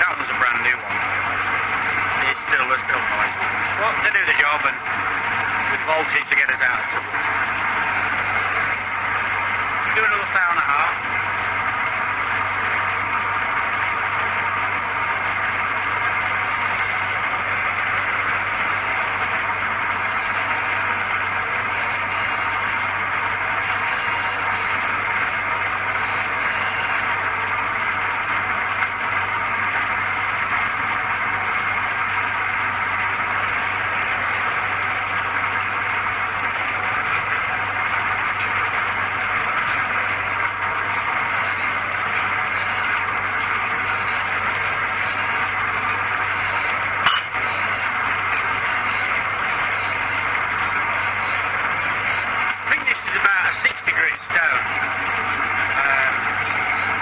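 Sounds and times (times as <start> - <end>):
machine motors running: 0.0 - 57.0
phase converter buzz: 0.0 - 57.0
grinding wheel hissing on disc: 0.1 - 57.0.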